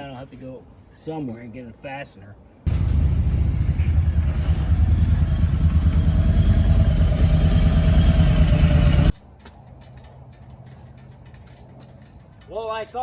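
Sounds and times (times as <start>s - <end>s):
vehicle engine and road noise: 2.4s - 13.0s.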